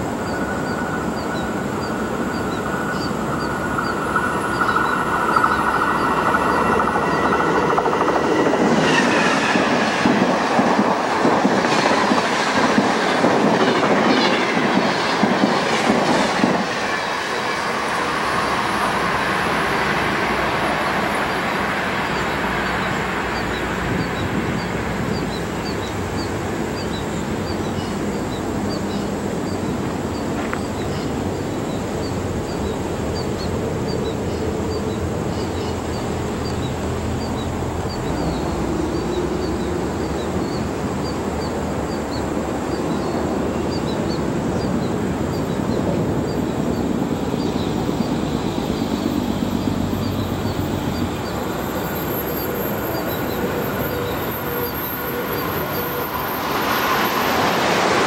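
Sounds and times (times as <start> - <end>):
passenger train rolling: 0.0 - 58.0.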